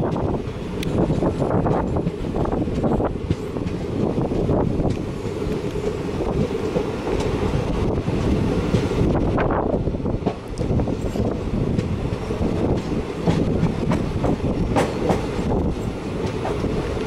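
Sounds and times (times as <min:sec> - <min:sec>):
rumble of train wheels on rails: 0:00.0 - 0:17.0.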